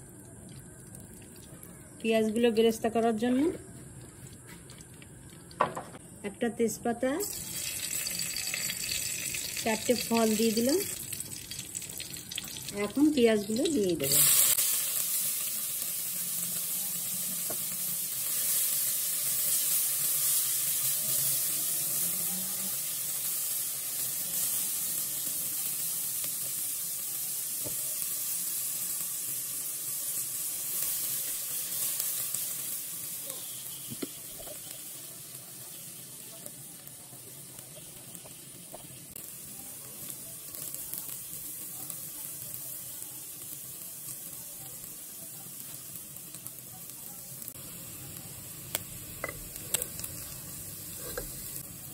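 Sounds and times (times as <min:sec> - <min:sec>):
onions sizzling in pot: 0:00.0 - 0:51.9.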